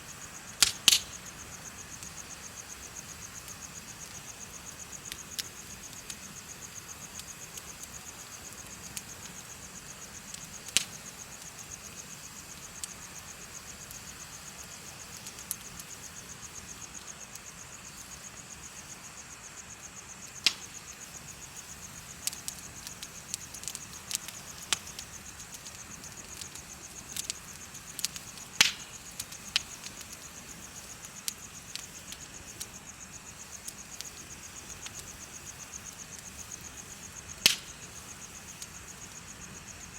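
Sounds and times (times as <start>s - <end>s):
bonfire wood crackling: 0.0s - 39.9s
insects chirping: 0.0s - 39.9s.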